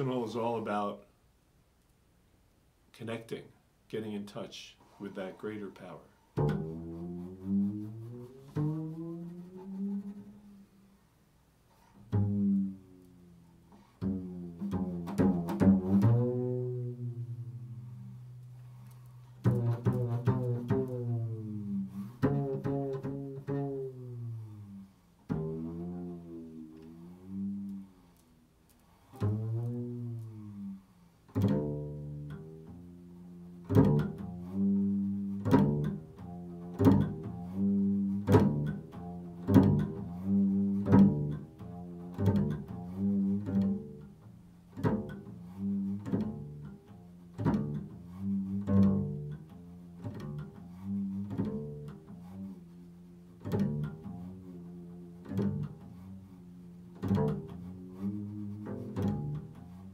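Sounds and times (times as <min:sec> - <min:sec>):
plucked double bass notes: 0:00.0 - 0:01.0, 0:05.0 - 0:11.1, 0:11.7 - 0:59.9.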